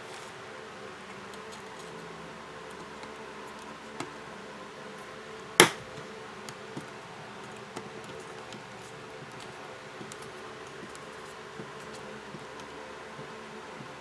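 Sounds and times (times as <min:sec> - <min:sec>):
steady buzzing hum: 0:00.0 - 0:14.0.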